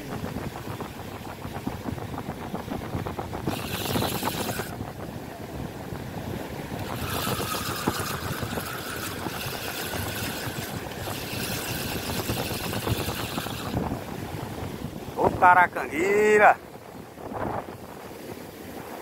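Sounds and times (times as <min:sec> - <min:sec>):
surf washing up the beach: 0:00.0 - 0:19.0
wind buffeting microphone: 0:00.0 - 0:19.0.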